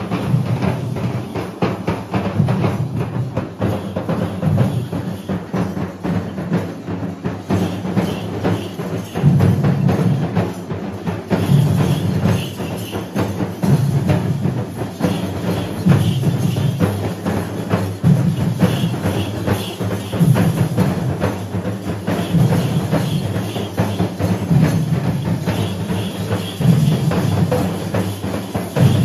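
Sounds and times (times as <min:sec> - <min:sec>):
loud fast dense drumming: 0:00.0 - 0:29.0.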